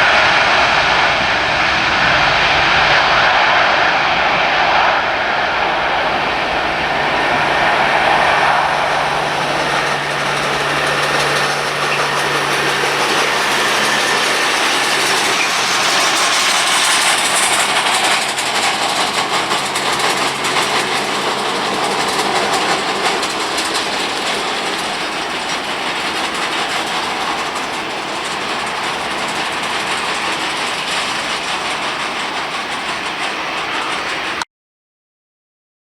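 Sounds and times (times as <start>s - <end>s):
jet engines running: 0.0s - 34.4s.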